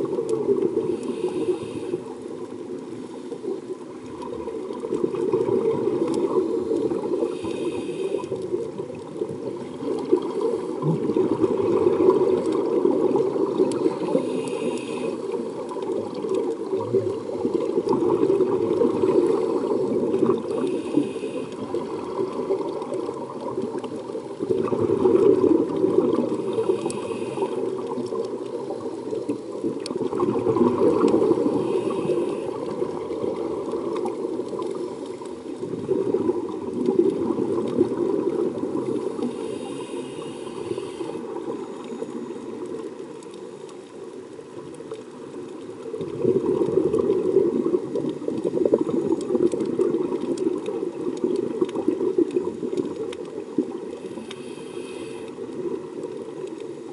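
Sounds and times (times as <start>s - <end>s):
underwater exhaled bubbles: 0.0s - 56.9s.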